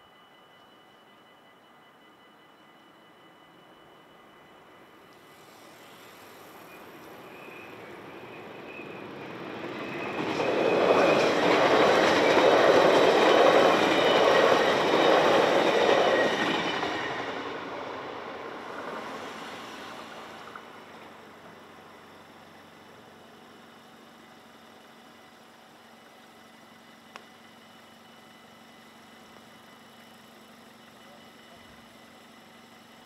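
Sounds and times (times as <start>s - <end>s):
passenger train passing: 0.0s - 33.0s.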